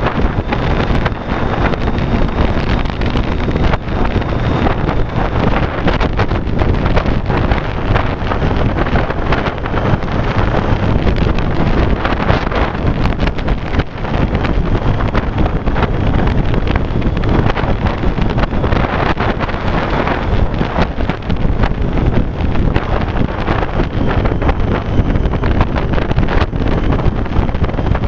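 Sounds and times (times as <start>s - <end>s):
motorcycle engine: 0.0s - 28.0s
road noise: 0.0s - 28.0s
wind rushing over microphone: 0.0s - 28.0s.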